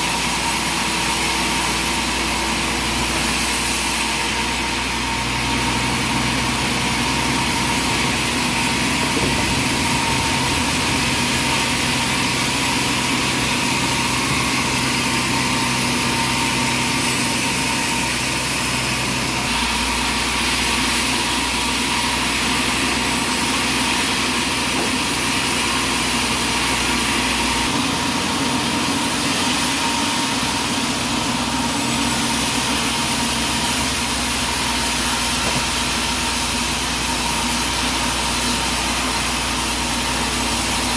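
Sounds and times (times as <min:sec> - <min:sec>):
sawmill machinery humming and whining: 0:00.0 - 0:40.9.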